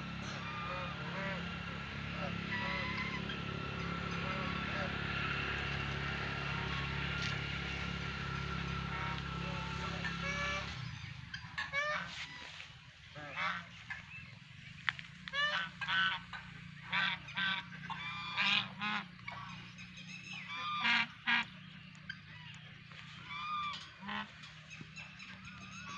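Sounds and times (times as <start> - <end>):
geese honking: 0.0 - 25.9.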